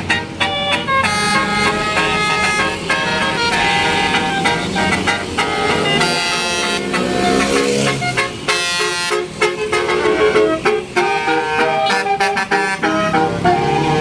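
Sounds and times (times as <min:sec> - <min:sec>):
musical air horn playing a tune: 0:00.0 - 0:14.0.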